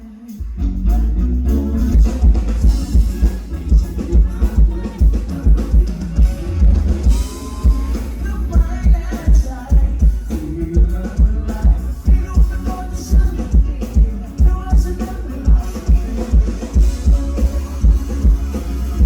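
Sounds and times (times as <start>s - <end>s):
live band playing pop song: 0.0s - 19.0s.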